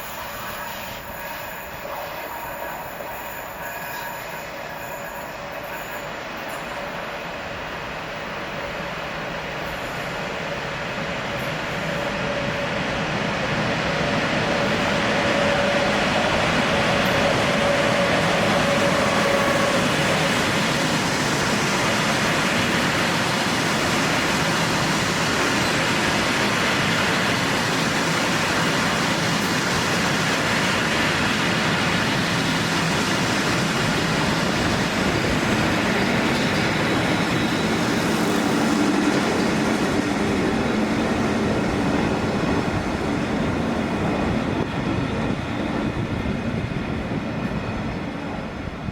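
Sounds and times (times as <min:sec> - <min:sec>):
train wheels on rail: 0:00.0 - 0:48.9.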